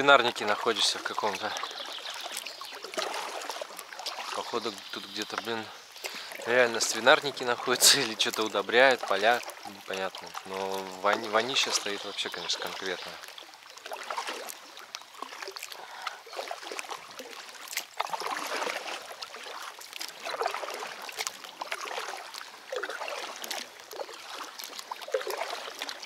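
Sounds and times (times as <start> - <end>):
kayak paddles splashing water: 0.0 - 26.0
water trickling off paddle blades: 0.0 - 26.0.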